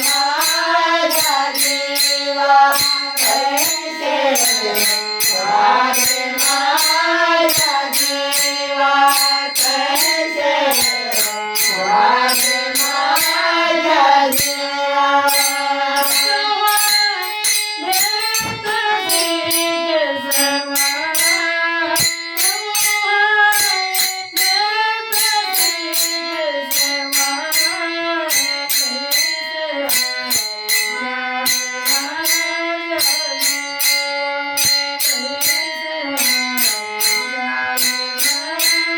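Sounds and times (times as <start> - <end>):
woman singing: 0.0 - 30.4, 31.0 - 33.7, 35.0 - 38.9
bright percussion beat: 0.0 - 38.9.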